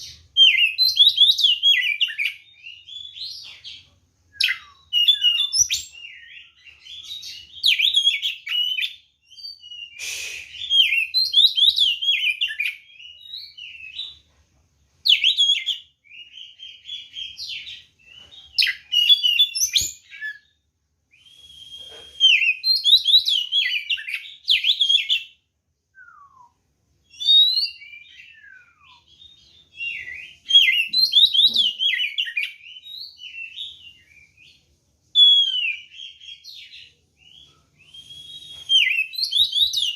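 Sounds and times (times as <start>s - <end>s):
songbird singing: 0.0s - 14.2s, 15.0s - 39.9s.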